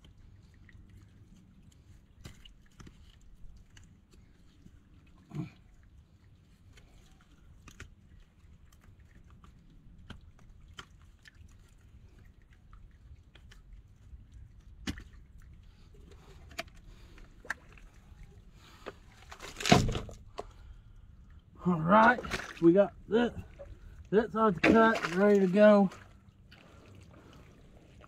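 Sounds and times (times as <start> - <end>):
mud and water sloshing: 0.0 - 28.0.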